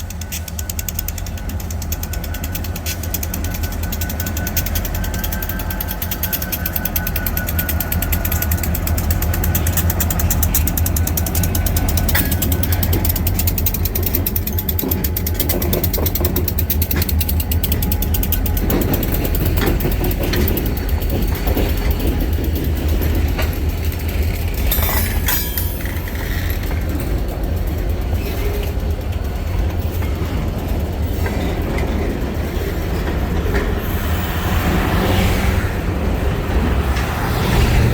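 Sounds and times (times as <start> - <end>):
train wheels clattering on rails: 0.0 - 37.9.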